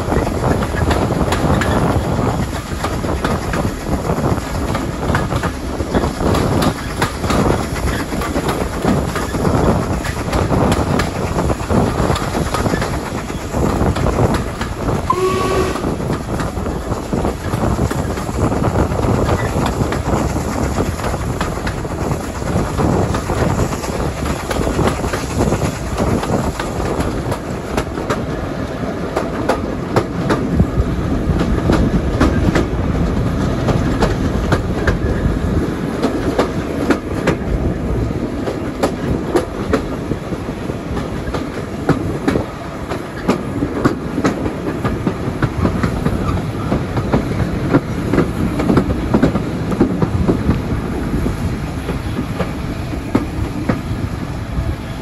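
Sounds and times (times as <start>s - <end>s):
wheels clicking over rail joints: 0.0s - 54.0s
train rumbling: 0.0s - 55.0s.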